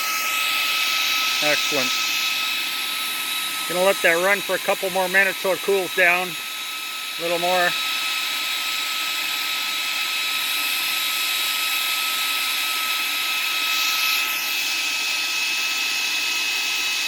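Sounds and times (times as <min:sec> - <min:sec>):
cooling fan whine over hiss: 0:00.0 - 0:16.3.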